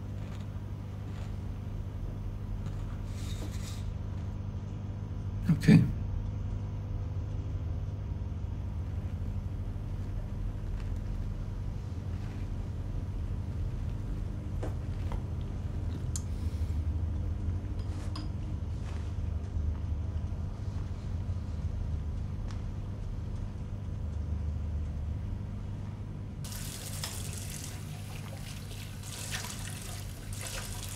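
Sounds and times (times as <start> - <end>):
low room hum: 0.0 - 30.9.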